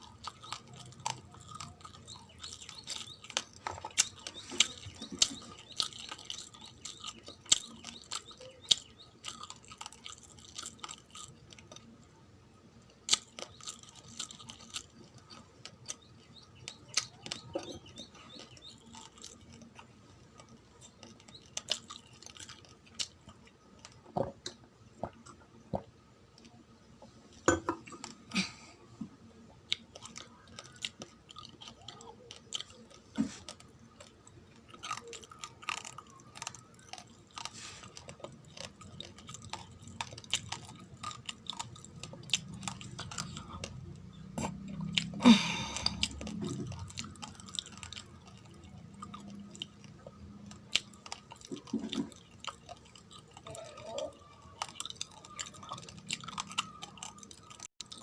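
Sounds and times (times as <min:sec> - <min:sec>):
chewing raw rice crunches: 0:00.0 - 0:12.2, 0:12.8 - 0:26.6, 0:29.5 - 0:58.0.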